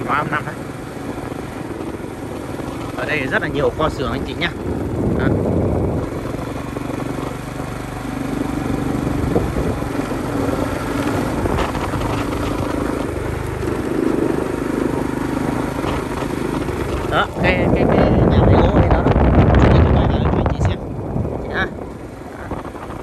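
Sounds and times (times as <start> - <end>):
road noise: 0.0 - 23.0
vehicle engine running: 0.0 - 23.0.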